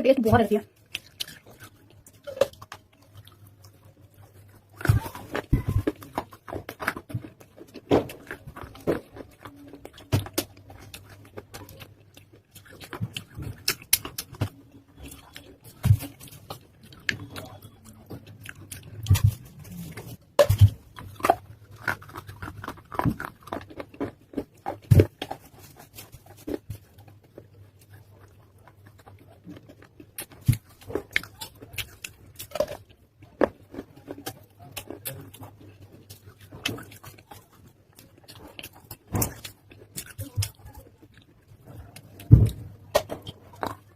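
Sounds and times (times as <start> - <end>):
chewing crunchy clay: 0.0 - 43.9.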